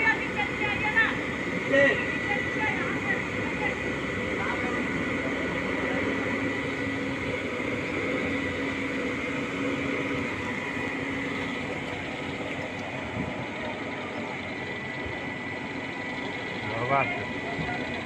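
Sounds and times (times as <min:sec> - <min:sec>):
crane diesel engine running: 0:00.0 - 0:18.0.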